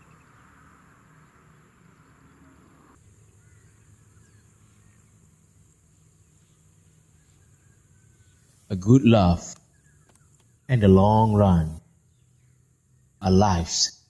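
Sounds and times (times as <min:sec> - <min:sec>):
distant bird chirps: 0:00.0 - 0:14.0.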